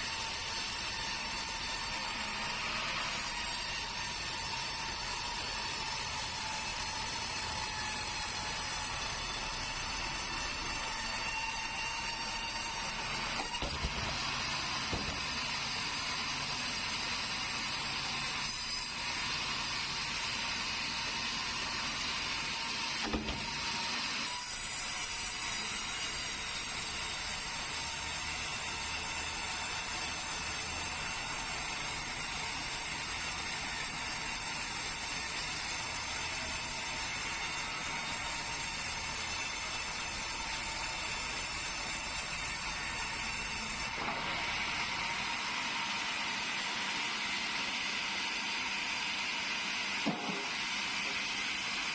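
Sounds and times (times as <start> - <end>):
sawmill saw cutting hardwood: 0.0 - 51.9.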